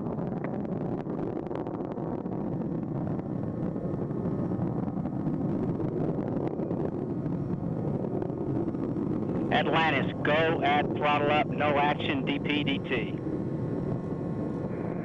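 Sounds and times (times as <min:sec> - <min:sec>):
rocket engines roaring and crackling: 0:00.0 - 0:15.0.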